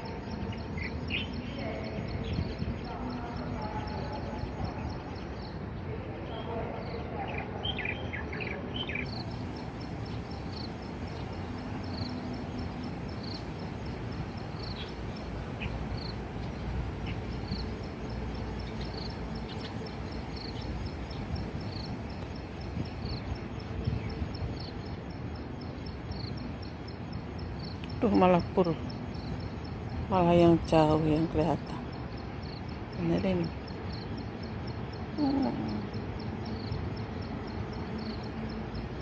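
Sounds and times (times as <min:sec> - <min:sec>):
high insect drone: 0:00.0 - 0:39.0
outdoor background noise: 0:00.0 - 0:39.0.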